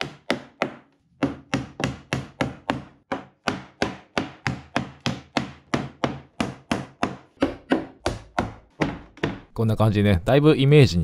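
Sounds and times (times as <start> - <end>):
hammer driving nails into wood: 0.0 - 9.5.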